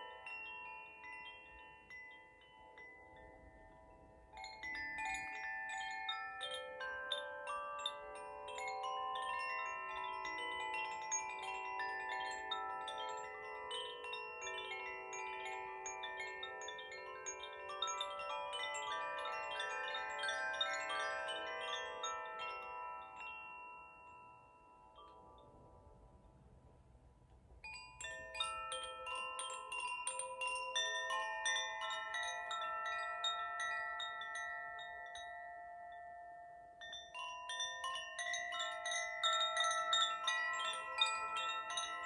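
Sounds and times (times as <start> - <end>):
wind chimes ringing: 0.0 - 26.8, 27.5 - 42.0.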